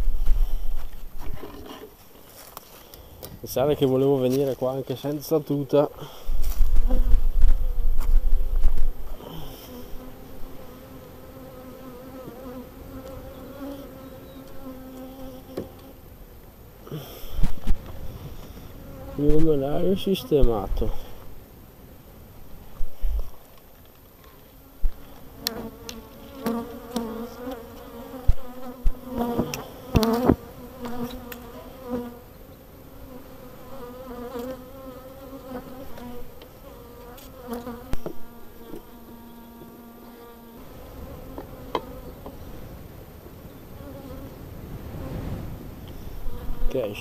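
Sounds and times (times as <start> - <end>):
honeybees buzzing: 0.0 - 16.2, 17.0 - 21.5, 24.4 - 47.0.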